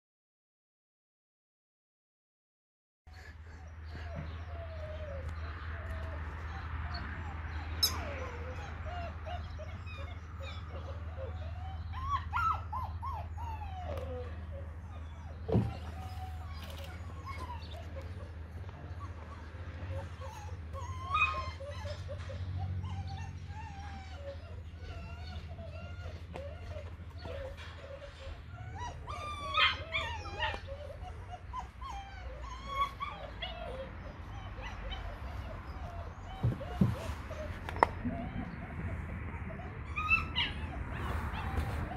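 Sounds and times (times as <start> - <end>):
puppy whining: 3.2 - 41.9.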